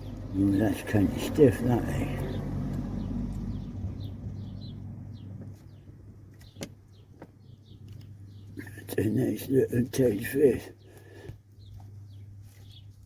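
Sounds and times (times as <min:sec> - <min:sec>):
vehicle engine hum: 0:00.0 - 0:10.6.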